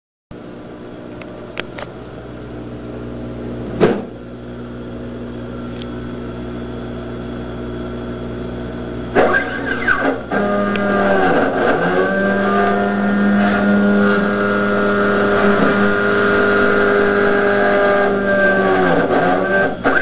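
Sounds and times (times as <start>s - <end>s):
laser cutter mechanical whine: 3.1s - 20.0s.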